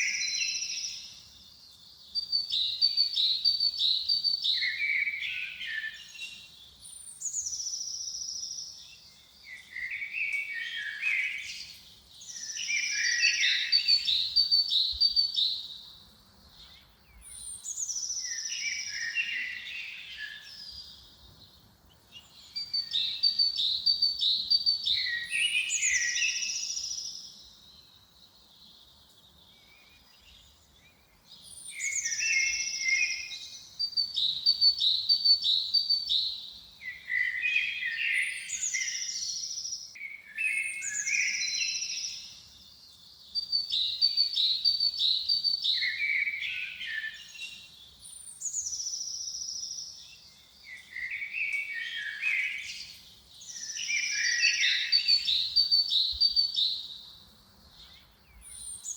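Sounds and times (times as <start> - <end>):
songbird singing: 0.0 - 58.9.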